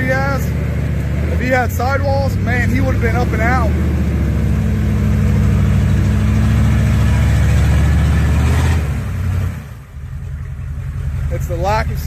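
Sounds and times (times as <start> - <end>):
engine revving high: 0.0 - 9.8.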